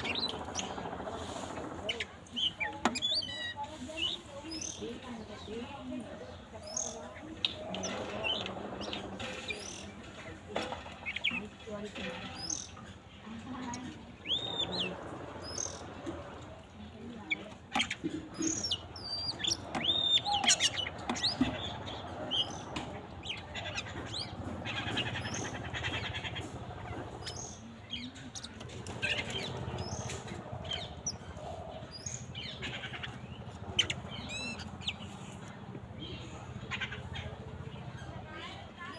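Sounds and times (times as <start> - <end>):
buzzy chattering trills: 0.0 - 5.6, 6.2 - 38.9
small birds chirping: 0.0 - 38.9.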